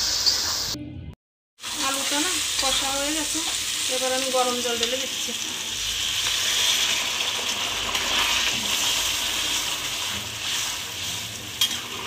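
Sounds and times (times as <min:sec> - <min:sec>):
hot water pouring and splashing: 0:01.6 - 0:12.0.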